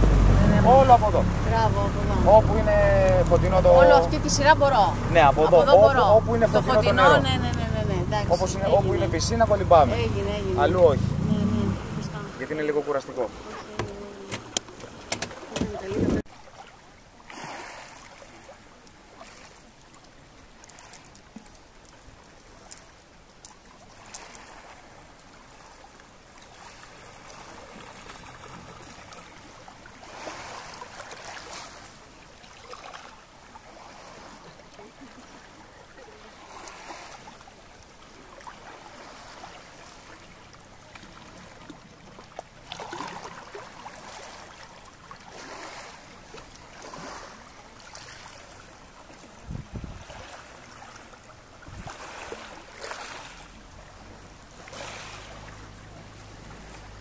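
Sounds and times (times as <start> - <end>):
small waves lapping on pebbles: 0.0 - 57.0.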